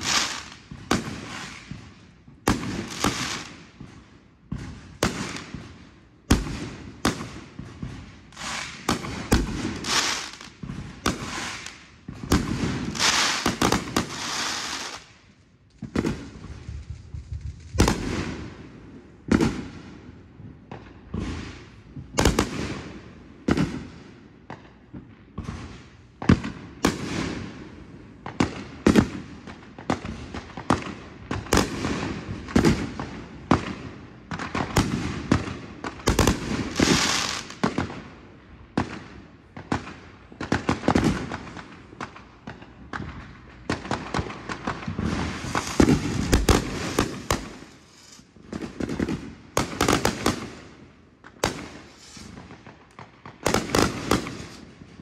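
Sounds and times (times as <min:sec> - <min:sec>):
fireworks bangs with crackle: 0:00.0 - 0:55.0.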